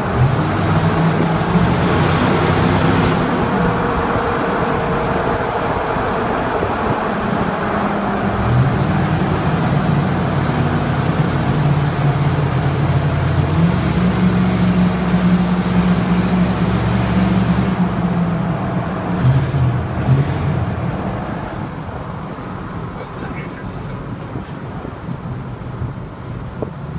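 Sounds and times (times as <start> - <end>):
truck exhaust roaring: 0.0 - 26.9.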